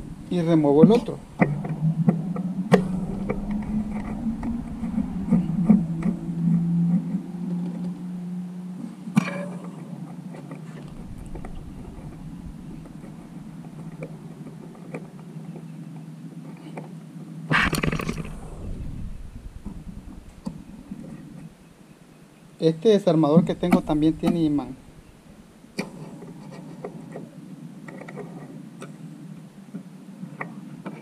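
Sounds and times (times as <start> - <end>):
steady low hum: 0.0 - 27.8.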